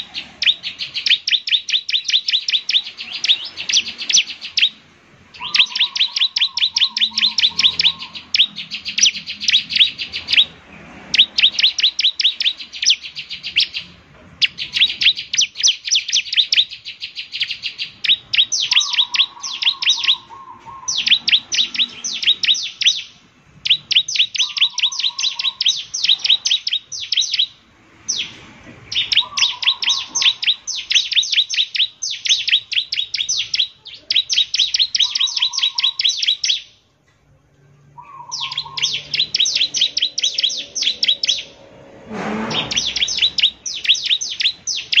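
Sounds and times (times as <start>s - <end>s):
bird singing rapid high notes: 0.0s - 36.9s, 37.7s - 45.0s.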